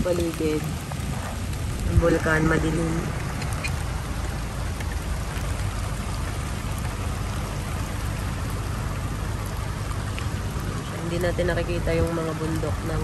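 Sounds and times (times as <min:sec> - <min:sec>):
low steady rumble: 0:00.0 - 0:13.0
steady rain: 0:00.0 - 0:13.0.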